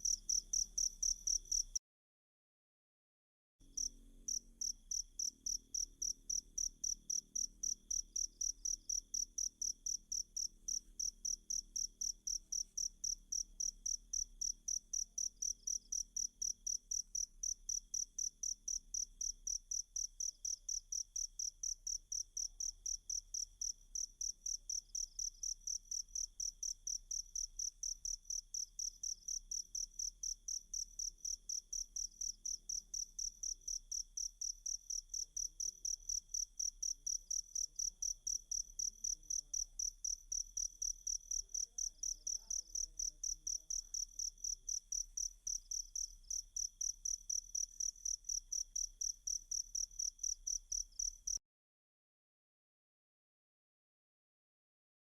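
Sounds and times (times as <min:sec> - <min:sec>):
cricket chirping: 0:00.0 - 0:01.8, 0:03.6 - 0:51.4.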